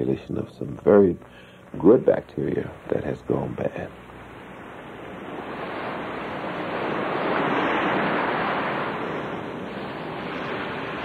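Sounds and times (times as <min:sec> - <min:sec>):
rushing surf-like noise: 0:00.9 - 0:11.0.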